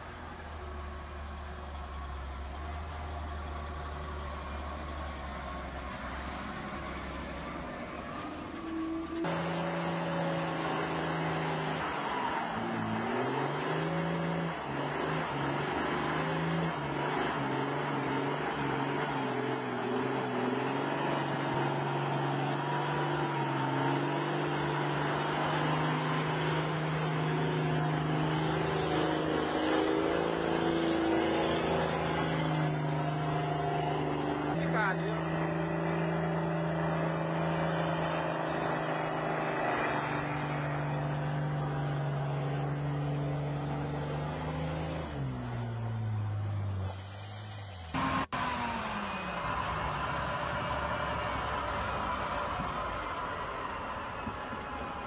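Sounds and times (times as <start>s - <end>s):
diesel truck engine running low: 0.0s - 55.0s
truck diesel engine working hard: 0.0s - 55.0s.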